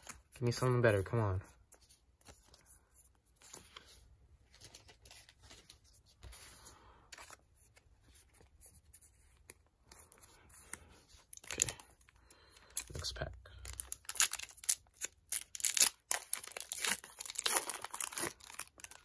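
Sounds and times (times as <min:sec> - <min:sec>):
trading cards rustling and clicking: 0:00.0 - 0:19.0.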